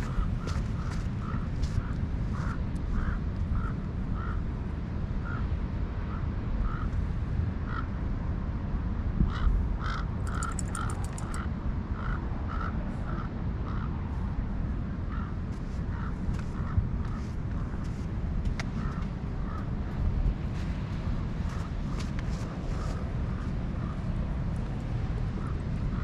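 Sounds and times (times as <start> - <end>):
wind: 0.0 - 26.0.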